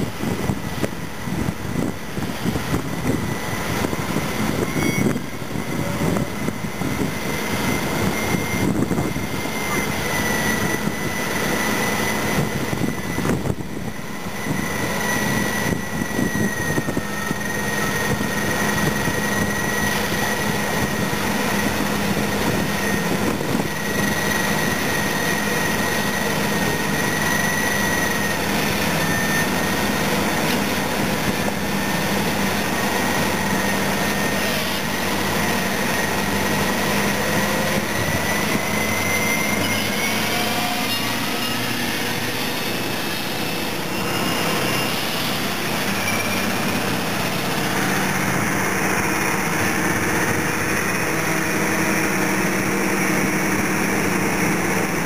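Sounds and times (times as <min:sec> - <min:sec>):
heavy diesel engines under load: 0:00.0 - 0:55.0
high whine: 0:00.0 - 0:55.0.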